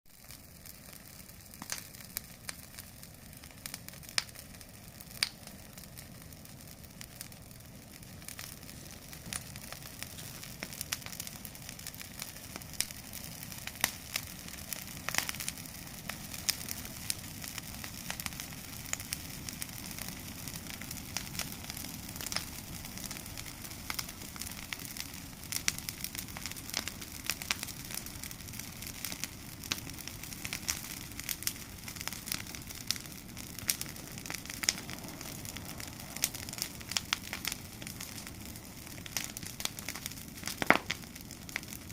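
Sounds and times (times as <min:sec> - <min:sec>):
bonfire crackling: 0:00.1 - 0:41.9
low rush of flames: 0:00.1 - 0:41.9
sharp pops of fire: 0:00.1 - 0:41.9.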